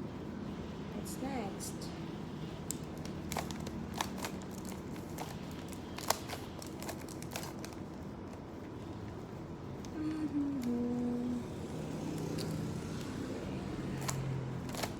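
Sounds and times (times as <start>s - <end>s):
steady background noise: 0.0s - 14.9s.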